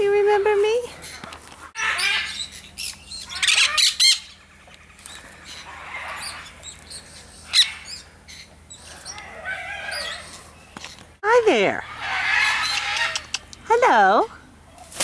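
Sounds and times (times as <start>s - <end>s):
parakeets chirping and squawking: 0.4s - 13.5s.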